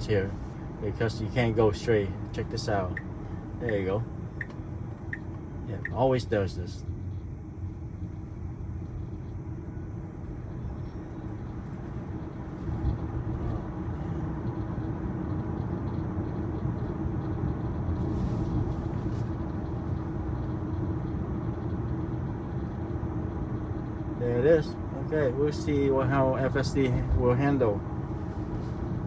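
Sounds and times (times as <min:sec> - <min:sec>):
faint steady hum: 0:00.0 - 0:29.0
road and tyre rumble: 0:00.0 - 0:29.0.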